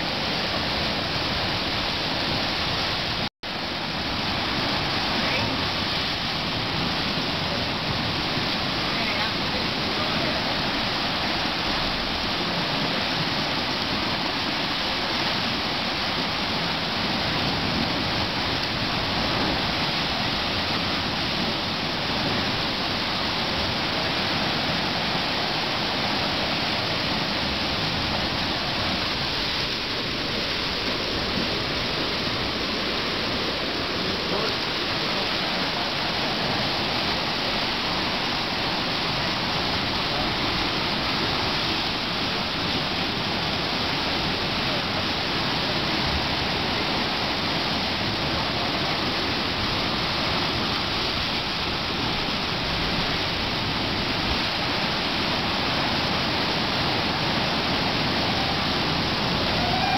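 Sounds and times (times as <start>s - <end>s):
seawater churning in rock pool: 0.0s - 59.9s.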